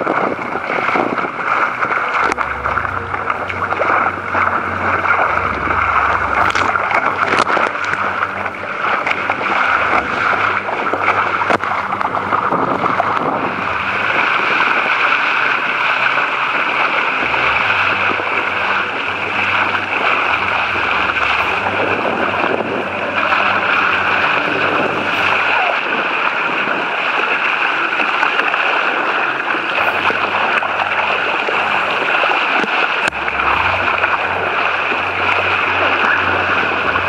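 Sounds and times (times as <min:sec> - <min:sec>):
water splashing along hull: 0:00.0 - 0:37.0
wind buffeting microphone: 0:00.0 - 0:37.0.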